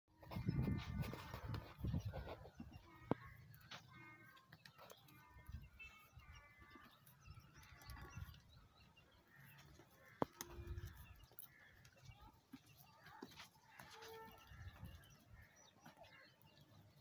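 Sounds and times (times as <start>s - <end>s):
faint birds calling: 0.2s - 17.0s.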